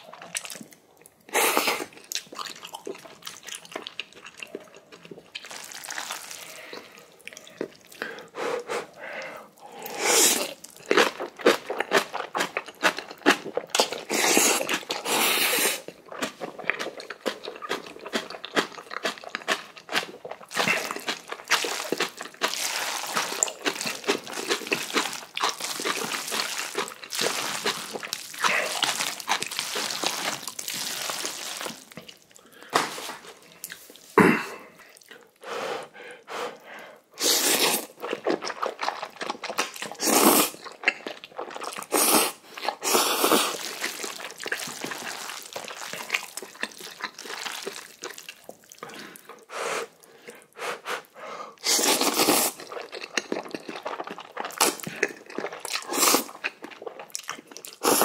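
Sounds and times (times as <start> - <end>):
wet chewing and slurping: 0.0 - 58.0.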